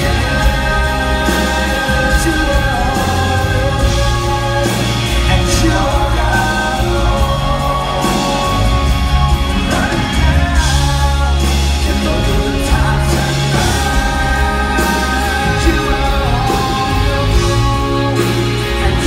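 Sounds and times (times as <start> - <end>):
man singing into microphone: 0.0 - 19.0
pop rock band playing: 0.0 - 19.0.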